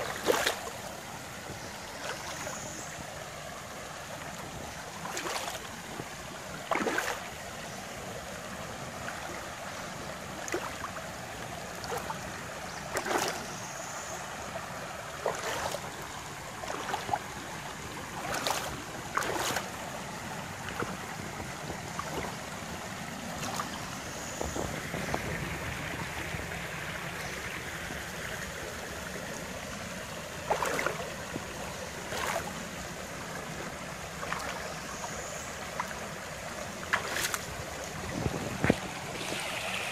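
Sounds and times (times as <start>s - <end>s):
water flowing over stones: 0.0s - 39.9s
water splashes and gurgles: 0.0s - 39.9s.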